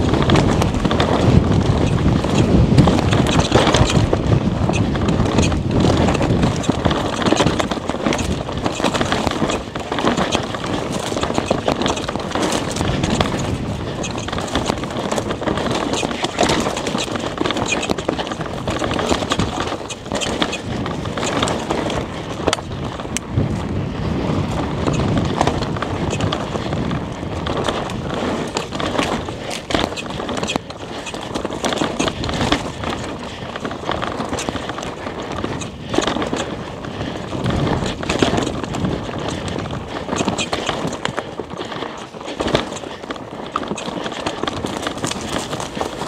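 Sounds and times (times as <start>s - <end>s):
bike clicking and rattling: 0.0s - 46.0s
tyres on dirt trail: 0.0s - 46.0s.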